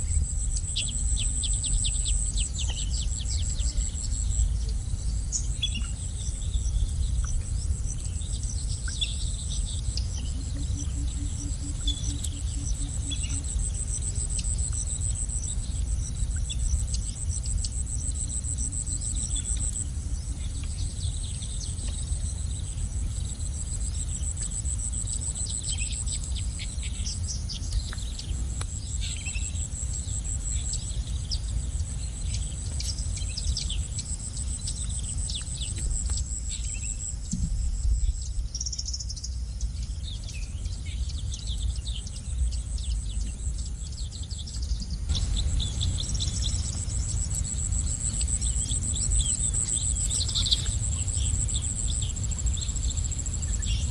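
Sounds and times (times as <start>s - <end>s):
low rumble: 0.0s - 38.6s, 39.2s - 53.9s
high-pitched insect trill: 0.0s - 53.9s
small birds chirping: 0.0s - 53.9s.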